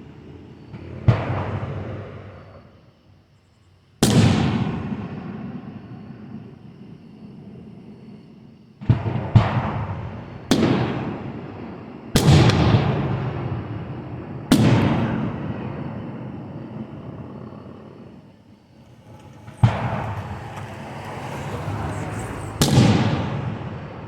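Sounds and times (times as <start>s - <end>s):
fireworks booming with rumbling echo: 0.0s - 2.8s, 4.0s - 24.0s.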